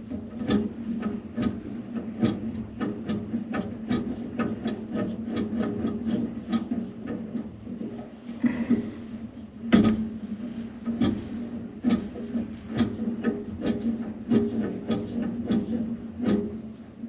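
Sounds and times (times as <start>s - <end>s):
tubing cutter ticking: 0.0s - 17.0s.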